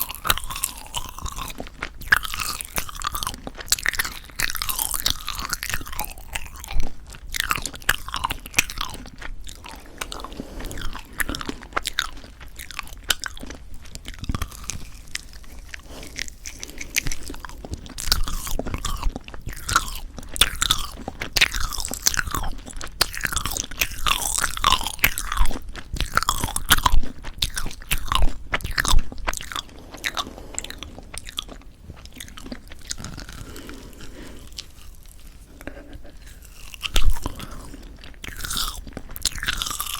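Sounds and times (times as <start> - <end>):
chewing rubbery marshmallow: 0.0 - 39.9.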